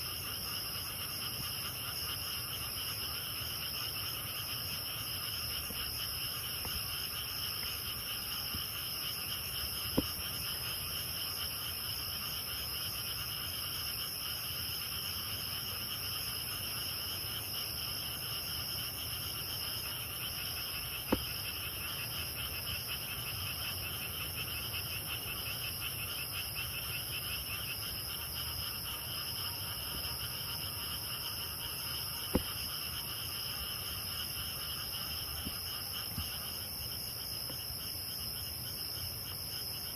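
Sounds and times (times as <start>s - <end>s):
high-pitched insect song: 0.0s - 39.9s.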